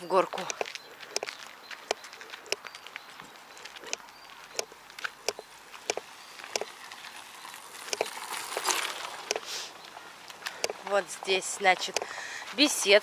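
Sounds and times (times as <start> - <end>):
footsteps walking up a slope: 0.5 - 7.2, 8.0 - 13.0.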